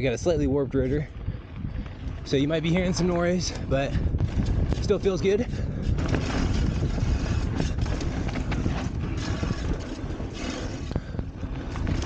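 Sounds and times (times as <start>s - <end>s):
bike rattling over bumps: 0.0s - 12.0s
low wind rumble on microphone: 0.0s - 12.0s
tyres on dirt: 1.4s - 12.0s.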